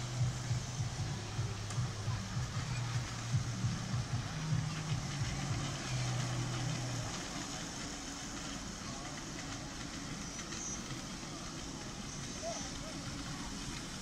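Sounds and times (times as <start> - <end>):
miniature locomotive humming: 0.0 - 14.0.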